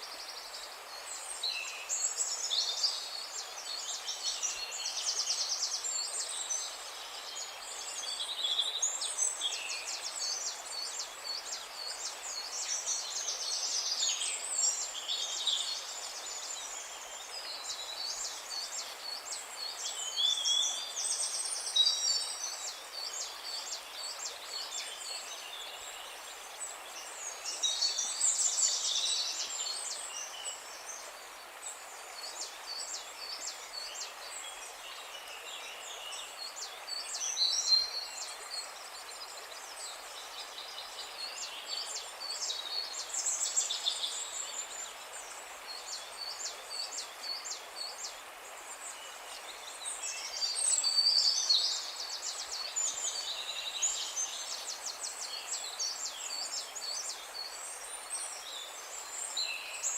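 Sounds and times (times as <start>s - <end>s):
faint outdoor hiss: 0.0s - 59.9s
songbirds singing: 0.0s - 59.9s.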